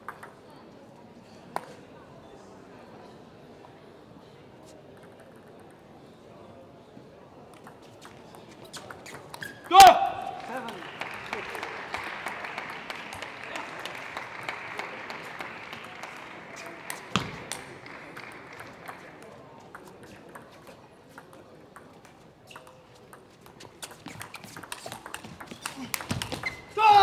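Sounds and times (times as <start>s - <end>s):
murmur of crowd: 0.0s - 27.0s.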